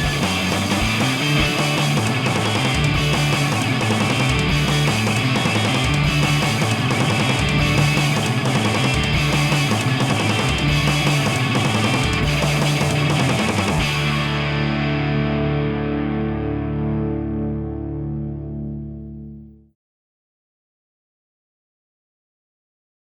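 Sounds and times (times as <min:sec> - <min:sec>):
distorted electric guitar: 0:00.0 - 0:19.5
bass guitar: 0:00.0 - 0:19.7.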